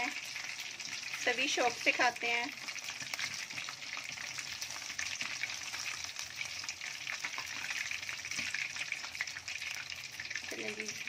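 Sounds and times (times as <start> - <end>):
fish deep-frying in oil: 0.0 - 11.0
spatula stirring in oil: 0.0 - 11.0.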